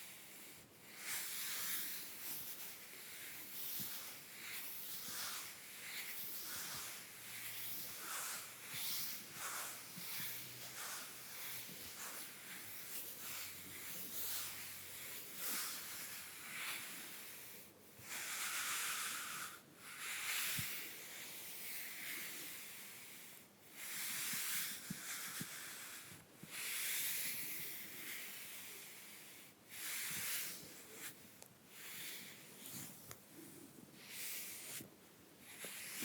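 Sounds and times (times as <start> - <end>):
brush strokes on skin: 0.0 - 36.0.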